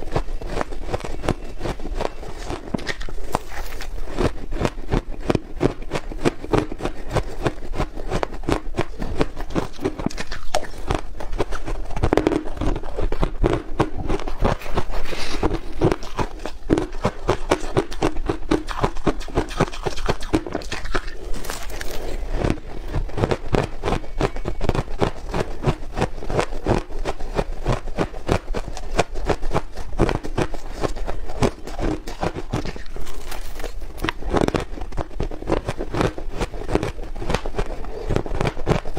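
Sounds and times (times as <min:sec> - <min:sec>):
ice being chewed crunching: 0:00.0 - 0:38.9.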